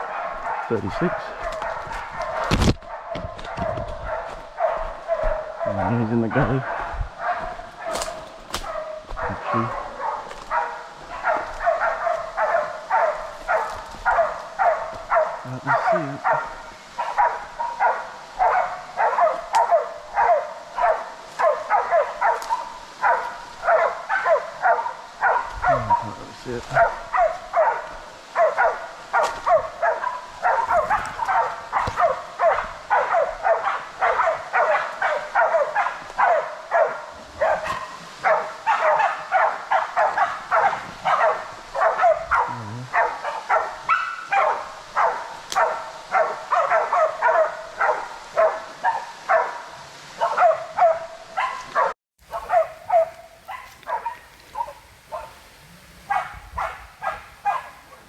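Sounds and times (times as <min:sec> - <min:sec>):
dogs barking fast: 0:00.0 - 0:55.4, 0:56.0 - 0:58.0.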